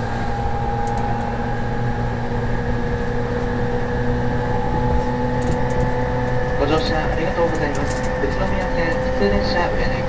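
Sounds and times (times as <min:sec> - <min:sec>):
train interior rumble: 0:00.0 - 0:10.0.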